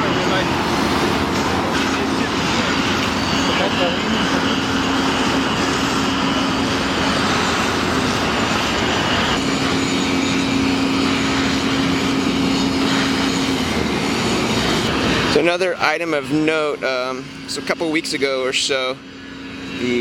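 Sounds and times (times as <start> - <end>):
low hum: 0.0 - 20.0
mechanical roar of machinery: 0.0 - 20.0.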